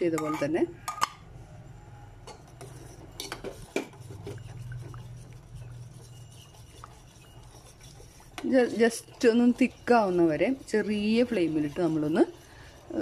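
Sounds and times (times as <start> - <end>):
spoon scraping and clinking in pot: 0.0 - 1.3, 2.2 - 13.0.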